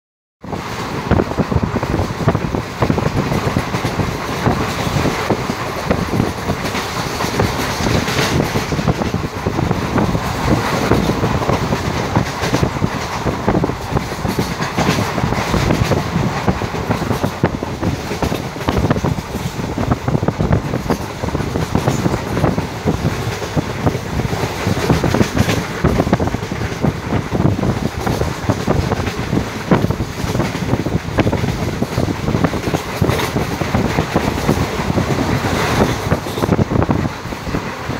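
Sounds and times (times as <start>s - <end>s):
clickety-clack over rail joints: 0.4s - 37.9s
train wheels rumbling on rails: 0.4s - 37.9s.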